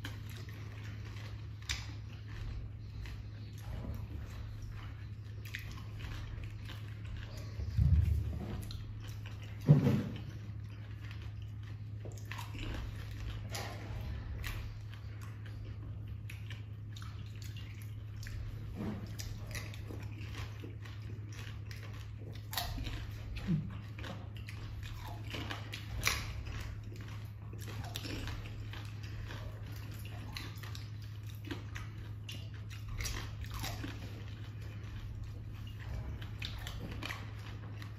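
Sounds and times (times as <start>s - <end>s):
crunching and chewing: 0.0s - 37.9s
steady low hum: 0.0s - 37.9s.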